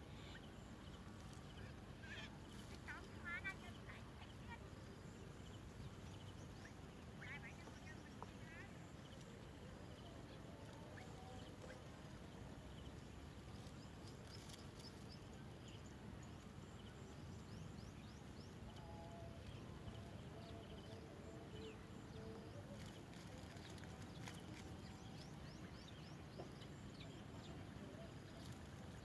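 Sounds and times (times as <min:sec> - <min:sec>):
low outdoor hiss: 0:00.0 - 0:29.0.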